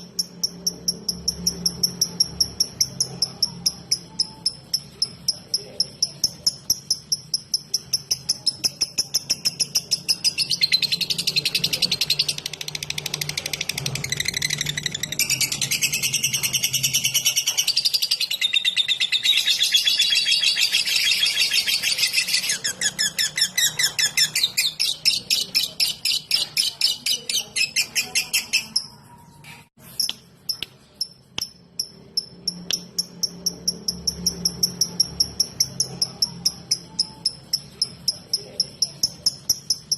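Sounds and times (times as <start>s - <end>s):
lovebird ticking chirps: 0.0s - 28.9s, 30.0s - 39.9s.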